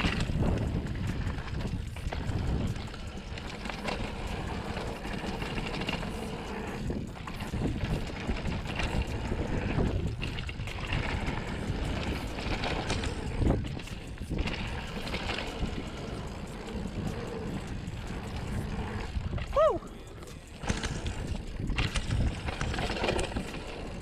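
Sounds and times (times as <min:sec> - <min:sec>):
bike knocks and rattles: 0:00.0 - 0:24.0
bike tyres rumbling on dirt: 0:00.0 - 0:24.0
wind on microphone: 0:00.0 - 0:24.0.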